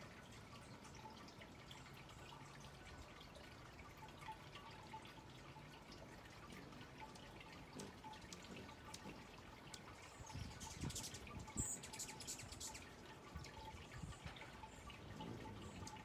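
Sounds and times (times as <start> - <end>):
soft scattered ticks: 0.0 - 16.0.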